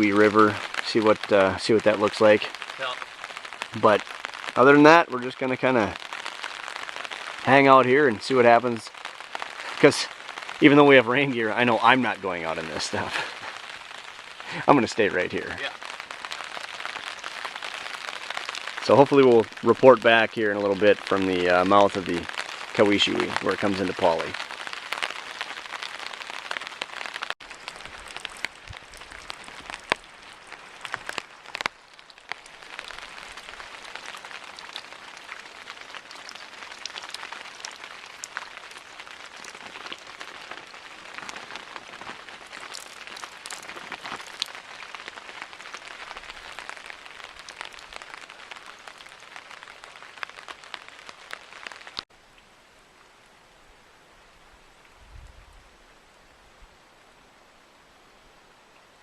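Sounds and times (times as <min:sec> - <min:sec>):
raindrop ticks: 0:00.0 - 0:52.5
steady rain hiss: 0:00.0 - 0:59.0.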